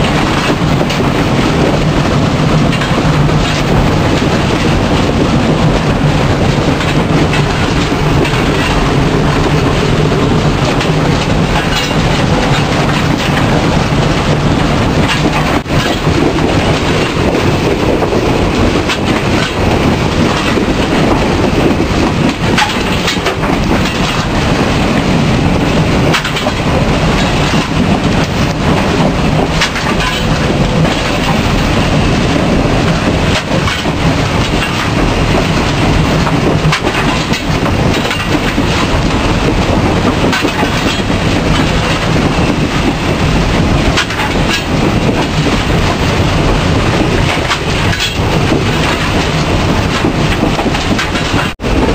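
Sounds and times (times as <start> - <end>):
wheels clattering over rails: 0.0 - 51.9.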